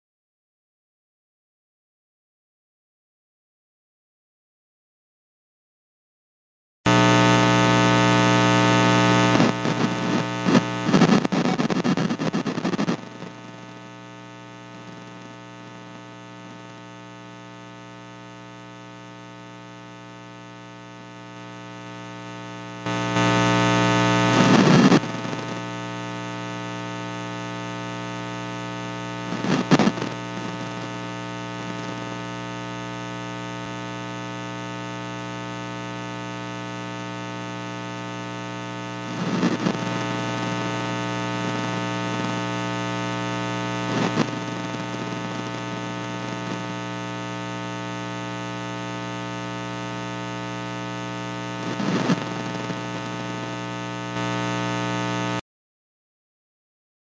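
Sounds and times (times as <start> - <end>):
crackling static bursts: 6.9 - 55.4.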